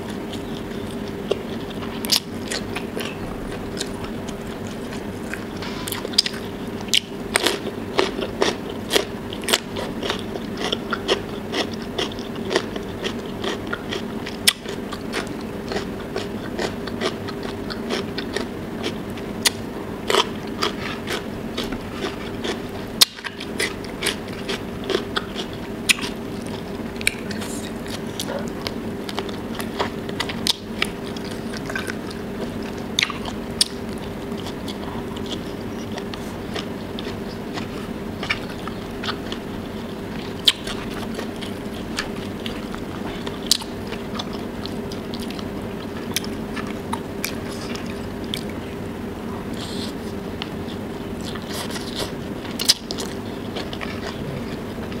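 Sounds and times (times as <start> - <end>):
crunching cucumber: 0.0 - 48.6, 49.6 - 55.0
chewing with wet mouth clicks: 0.0 - 48.7, 49.4 - 55.0
steady low hum: 0.0 - 55.0.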